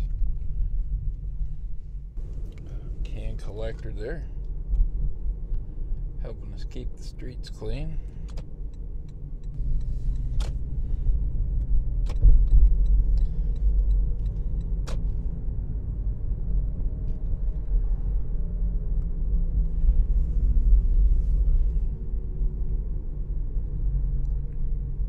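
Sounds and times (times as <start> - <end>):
car road rumble: 0.0 - 25.0.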